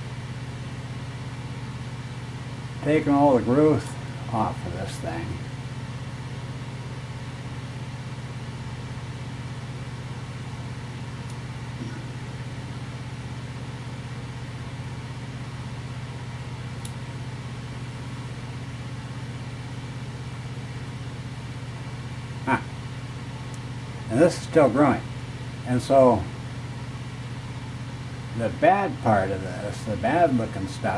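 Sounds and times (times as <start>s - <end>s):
low machine hum: 0.0s - 30.9s.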